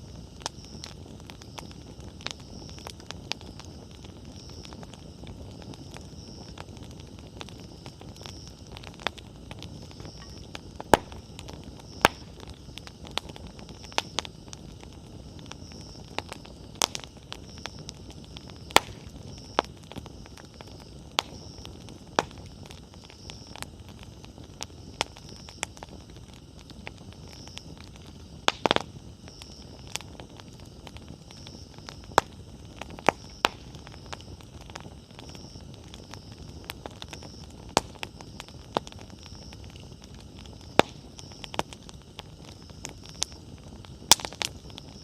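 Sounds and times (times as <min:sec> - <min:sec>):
campfire burning rush: 0:00.0 - 0:45.0
firewood crackles and pops: 0:00.0 - 0:45.0.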